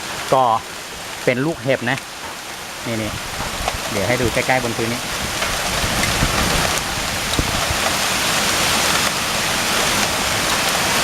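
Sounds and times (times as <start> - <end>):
heavy rain and hail hissing: 0.0 - 11.0.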